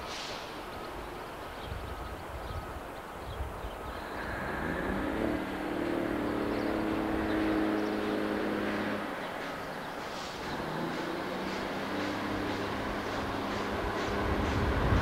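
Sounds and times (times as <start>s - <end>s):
diesel locomotive engine: 0.0s - 15.0s.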